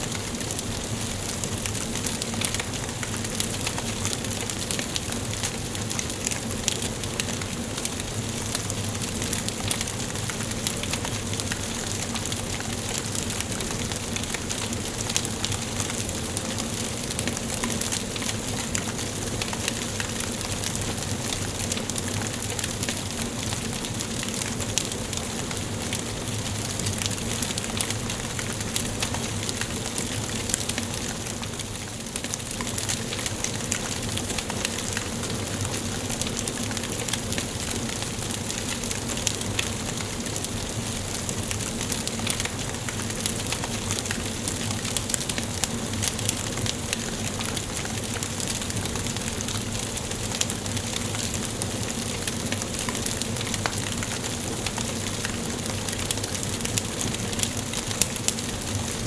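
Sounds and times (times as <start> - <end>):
fire crackles and snaps: 0.0 - 59.0
wood fire hissing: 0.0 - 59.0.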